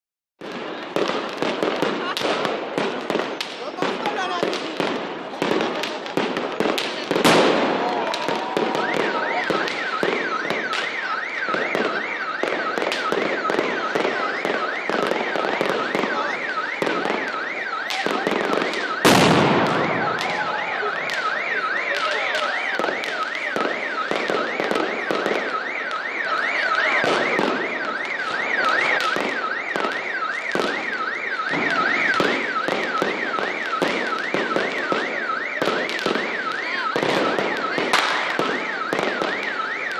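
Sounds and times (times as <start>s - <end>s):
close firework bangs: 0.4s - 39.9s
fireworks popping and crackling: 0.4s - 39.9s
alarm wailing: 7.5s - 39.9s.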